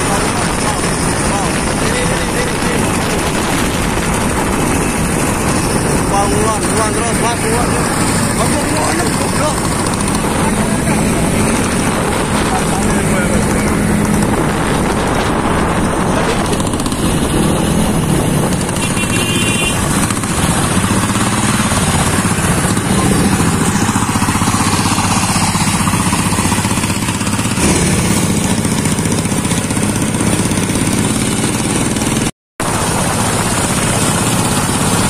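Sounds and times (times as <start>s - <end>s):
motorcycle diesel engine running: 0.0s - 35.0s
road and wind noise: 0.0s - 35.0s.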